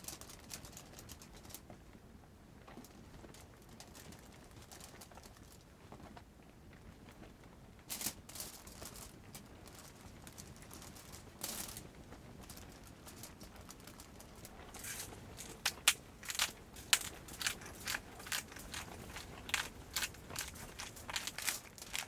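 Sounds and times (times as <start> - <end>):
rustling crinkling: 2.6 - 22.0.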